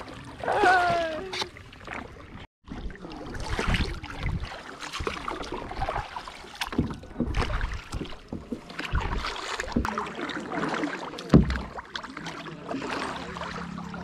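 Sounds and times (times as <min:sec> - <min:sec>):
paddles splashing in water: 0:00.0 - 0:14.0.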